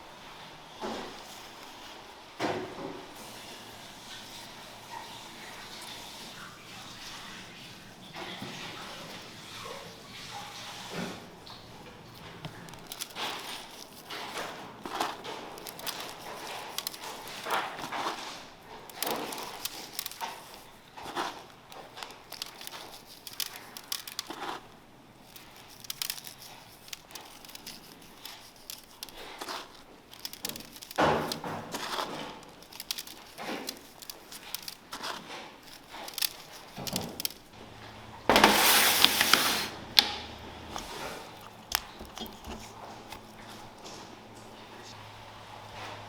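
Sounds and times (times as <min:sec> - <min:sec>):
objects being handled: 0:02.4 - 0:37.6, 0:38.3 - 0:45.0.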